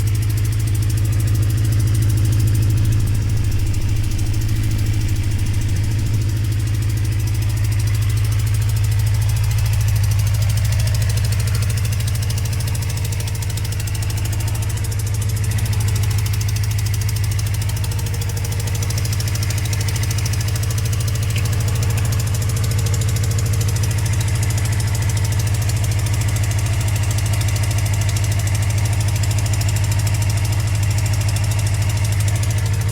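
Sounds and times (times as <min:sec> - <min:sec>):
exhaust leak ticking: 0:00.0 - 0:32.9
motorcycle engine idling: 0:00.0 - 0:32.9.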